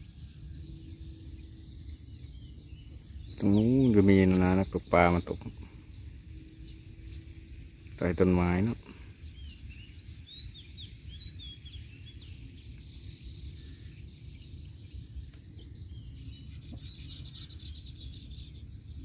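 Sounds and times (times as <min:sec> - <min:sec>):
birds chirping: 0:00.0 - 0:19.0
low steady rumble: 0:00.0 - 0:19.0.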